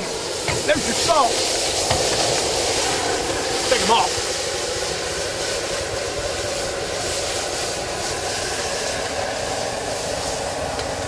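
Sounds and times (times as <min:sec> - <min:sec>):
gas burner flame rushing: 0:00.0 - 0:11.0.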